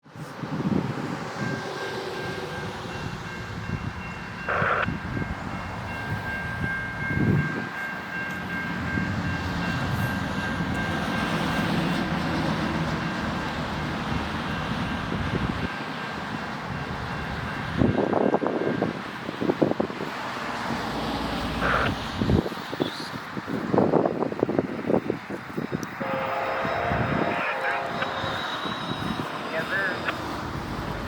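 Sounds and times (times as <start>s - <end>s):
passenger train rumbling: 0.0s - 31.0s.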